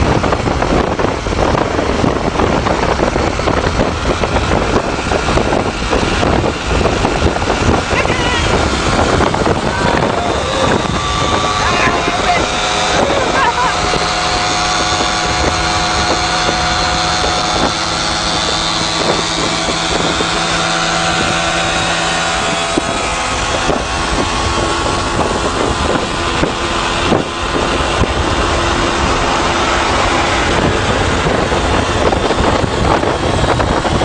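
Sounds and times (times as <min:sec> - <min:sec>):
motorcycle engines droning: 0:00.0 - 0:34.0
wind buffeting microphone: 0:00.0 - 0:34.0.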